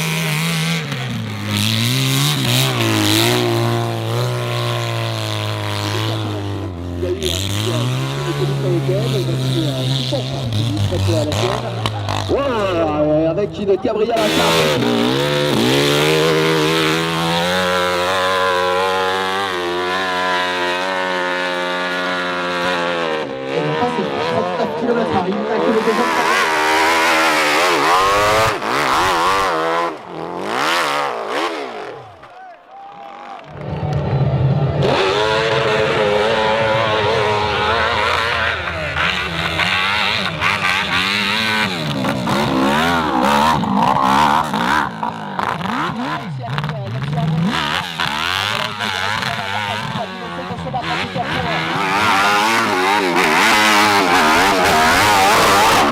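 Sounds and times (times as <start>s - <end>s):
motorcycle engine revving high: 0.0s - 32.3s, 33.5s - 55.9s.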